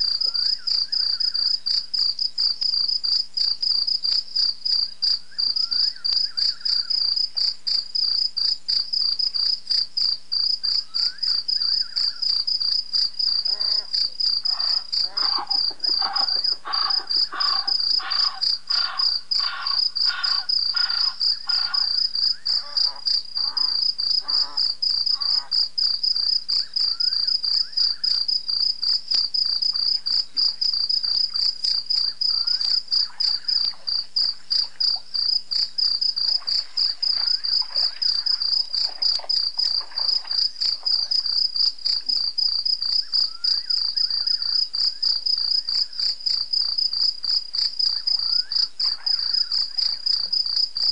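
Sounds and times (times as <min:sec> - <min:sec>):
crickets chirping: 0:00.0 - 0:50.9
lower-pitched insect calls: 0:00.0 - 0:50.9.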